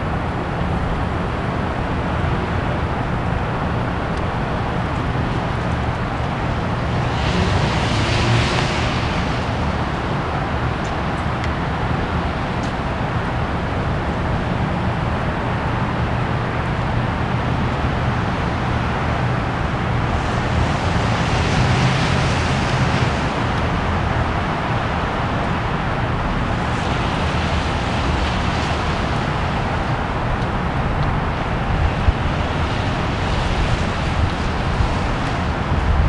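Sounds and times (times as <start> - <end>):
road traffic noise: 0.0 - 36.0.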